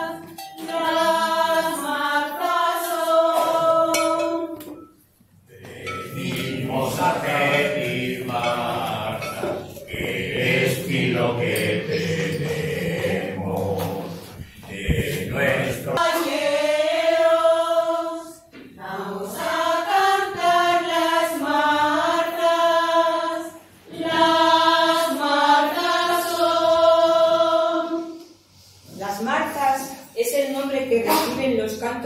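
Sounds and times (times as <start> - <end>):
choir singing unaccompanied: 0.0 - 4.9, 5.5 - 28.4.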